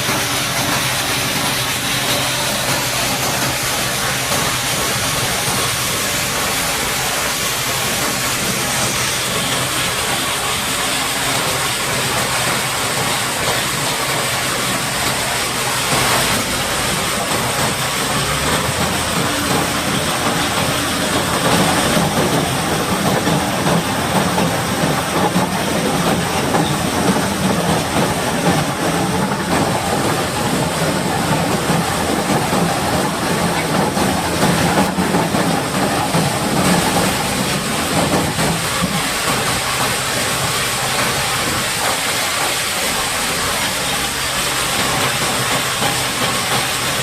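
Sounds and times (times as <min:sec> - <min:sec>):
engine running: 0:00.0 - 0:47.0
pressure water jet hissing: 0:00.0 - 0:47.0.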